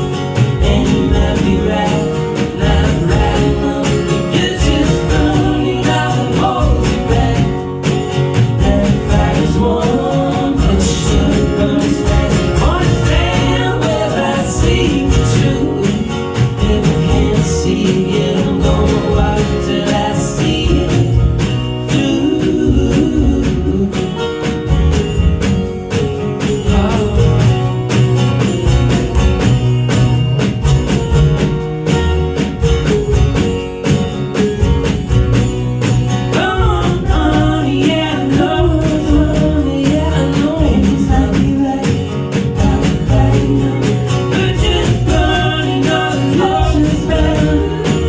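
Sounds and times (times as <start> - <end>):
people singing harmonies: 0.0 - 29.6, 32.7 - 48.0
percussion: 0.0 - 48.0
strummed acoustic guitar: 0.0 - 48.0.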